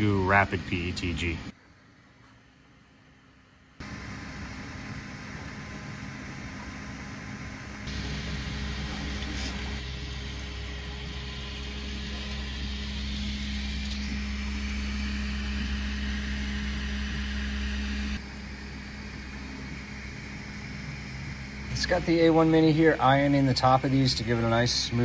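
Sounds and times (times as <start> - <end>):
printer motors and fans humming: 3.8 - 25.0.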